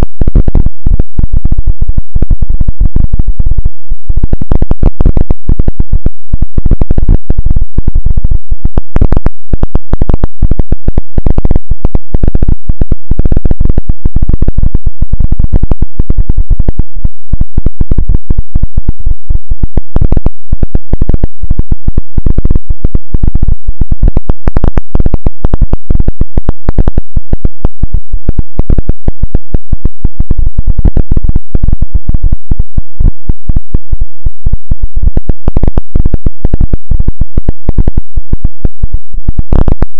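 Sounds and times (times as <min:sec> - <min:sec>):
harsh clipped electronic noise: 0:00.0 - 0:39.9.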